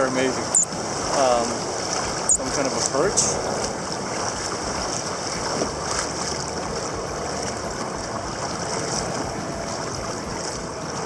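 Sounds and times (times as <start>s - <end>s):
water splashing against a kayak: 0.0s - 11.0s.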